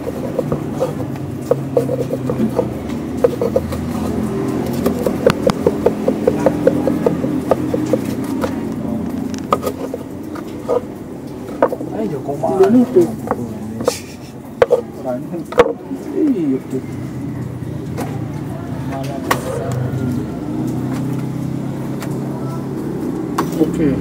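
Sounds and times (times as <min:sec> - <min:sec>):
street background noise: 0:00.0 - 0:24.0.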